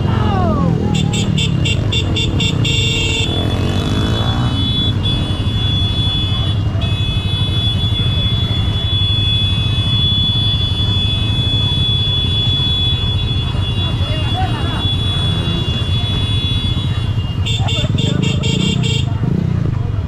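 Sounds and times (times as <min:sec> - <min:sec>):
motorcycles idling: 0:00.0 - 0:20.0.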